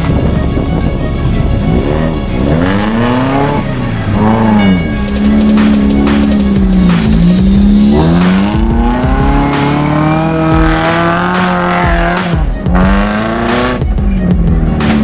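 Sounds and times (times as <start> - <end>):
background music with a beat: 0.0 - 15.0
engine revving hard: 1.6 - 15.0.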